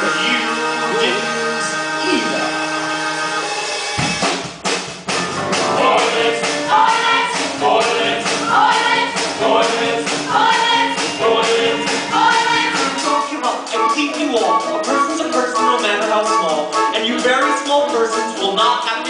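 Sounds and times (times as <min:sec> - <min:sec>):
band accompaniment with steady beat: 0:00.0 - 0:19.0.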